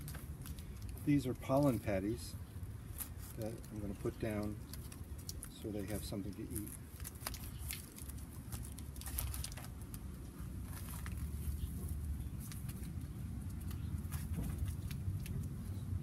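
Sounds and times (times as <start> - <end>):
paper crackling and rustling: 2.8 - 16.0.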